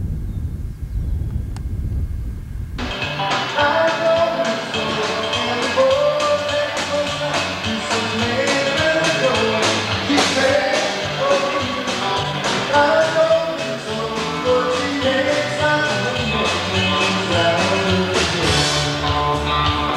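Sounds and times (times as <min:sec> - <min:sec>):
rock and roll music with singing: 0:02.8 - 0:19.9.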